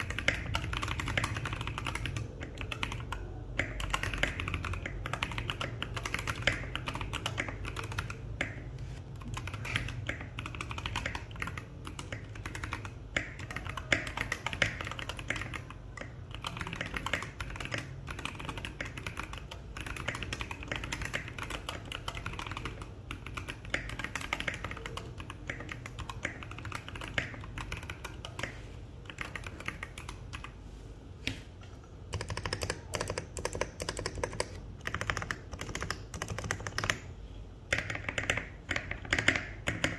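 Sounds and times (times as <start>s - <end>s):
mechanical keyboard typing: 0.0s - 30.6s, 31.9s - 39.9s.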